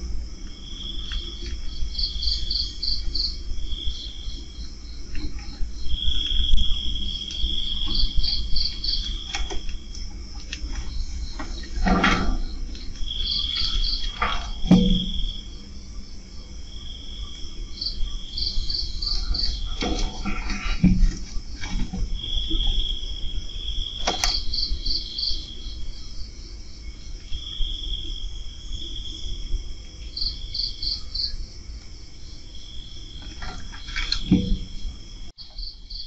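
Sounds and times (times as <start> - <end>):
crickets chirping: 0.0 - 36.0
low steady hum: 0.0 - 36.0.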